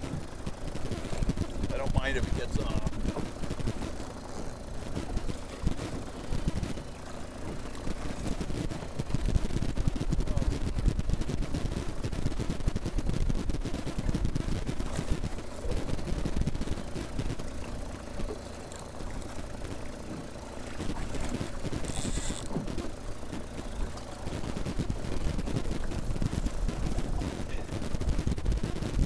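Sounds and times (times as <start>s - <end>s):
wind buffeting microphone: 0.0s - 18.4s, 20.2s - 29.0s
waves against boat hull: 0.0s - 29.0s.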